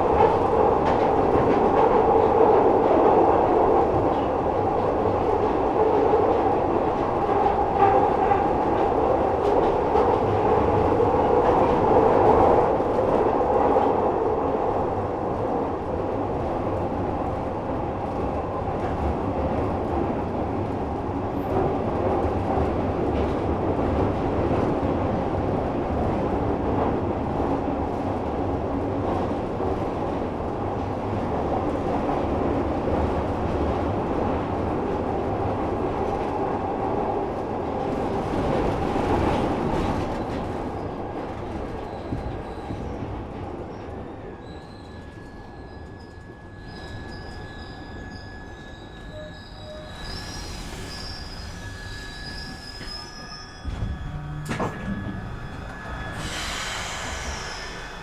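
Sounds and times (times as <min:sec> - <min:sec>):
subway train wheels on rail: 0:00.0 - 0:58.0.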